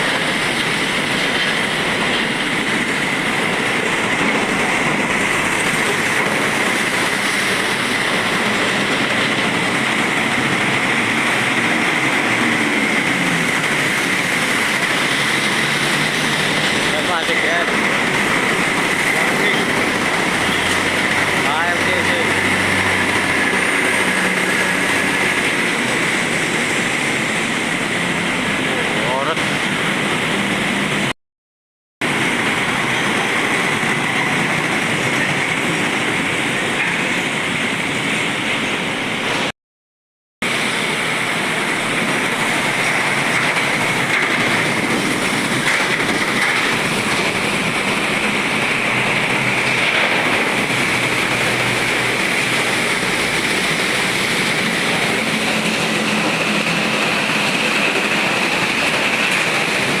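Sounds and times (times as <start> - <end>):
tyres hissing on wet road: 0.0 - 31.1, 32.0 - 39.5, 40.4 - 60.0
heavy truck engines: 0.0 - 31.2, 32.0 - 39.5, 40.4 - 60.0.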